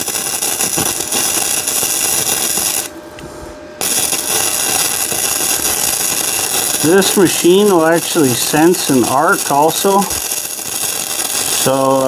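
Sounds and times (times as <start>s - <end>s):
welding arc crackling: 0.0s - 3.0s, 3.8s - 12.0s.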